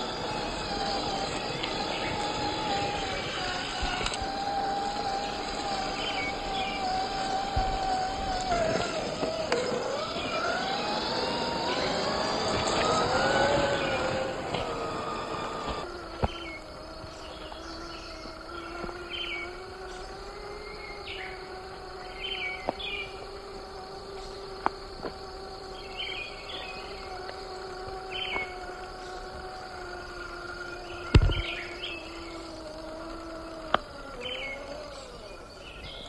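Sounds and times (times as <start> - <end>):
birds chirping: 0.0 - 36.0
electric motor and gears whining: 0.0 - 36.0.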